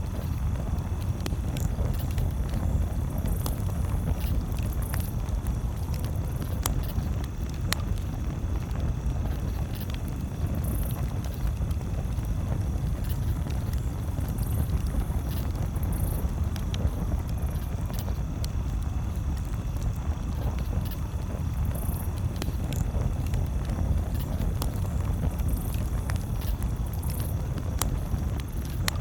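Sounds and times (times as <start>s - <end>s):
campfire crackling and popping: 0.0s - 29.0s
steady low rumble: 0.0s - 29.0s.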